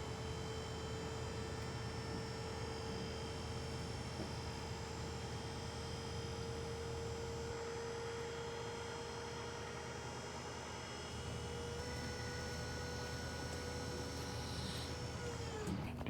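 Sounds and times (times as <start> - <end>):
machine hum with whine: 0.0 - 16.0.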